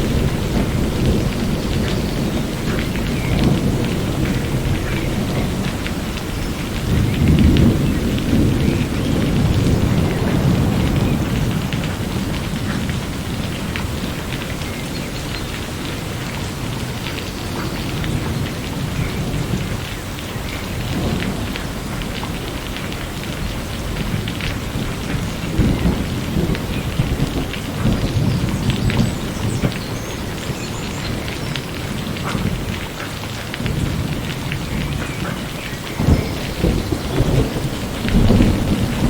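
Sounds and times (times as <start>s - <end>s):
low rolling thunder: 0.0s - 39.0s
steady rain: 0.0s - 39.0s.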